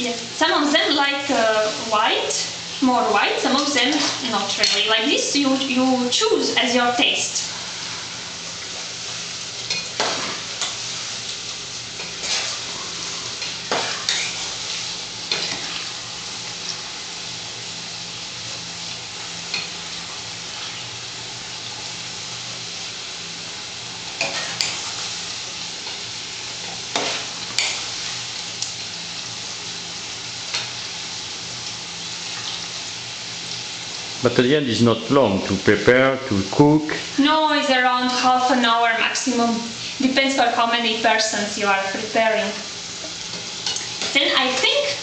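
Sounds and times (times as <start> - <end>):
fries sizzling in hot oil: 0.0 - 45.0.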